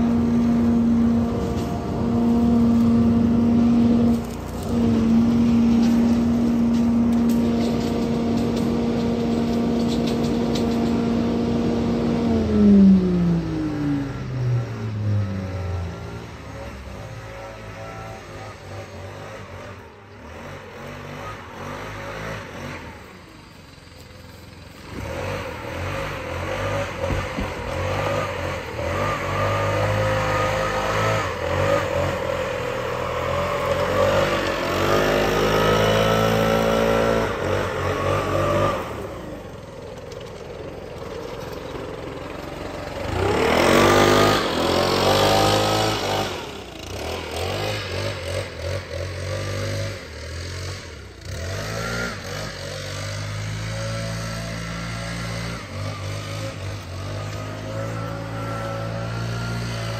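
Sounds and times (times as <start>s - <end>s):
leaf vacuum engine running: 0.0s - 16.1s, 21.1s - 59.9s
leaf blower revving: 0.0s - 59.9s.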